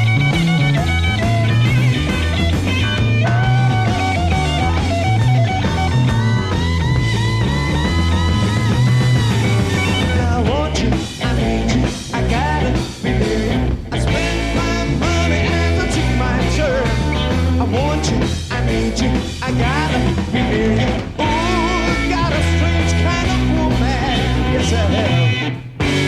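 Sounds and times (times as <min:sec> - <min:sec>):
hard rock band playing: 0:00.0 - 0:26.0
lead electric guitar: 0:00.0 - 0:26.0.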